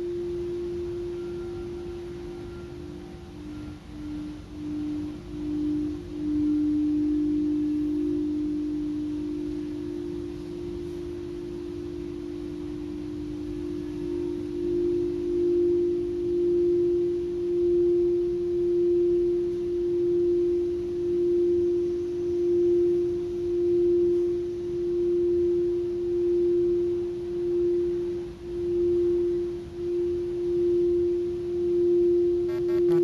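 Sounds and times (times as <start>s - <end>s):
singing bowl ringing: 0.0s - 33.0s.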